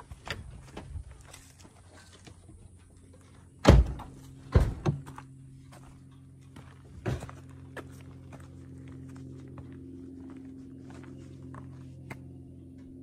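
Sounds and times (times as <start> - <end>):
car engine and tyres droning: 0.0 - 13.0.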